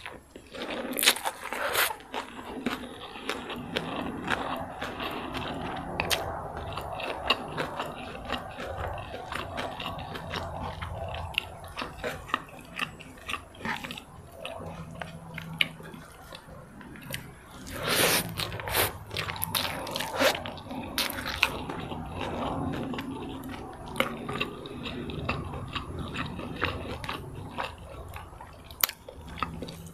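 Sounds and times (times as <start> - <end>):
chewing and crunching food: 0.0 - 29.9.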